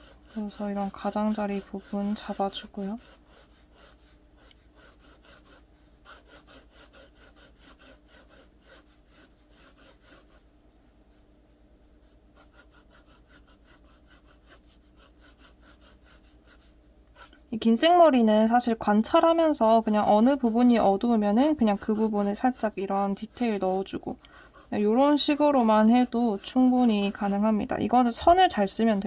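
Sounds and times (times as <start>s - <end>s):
pencil shading on paper: 0.0s - 10.5s, 11.8s - 17.4s, 19.1s - 29.0s.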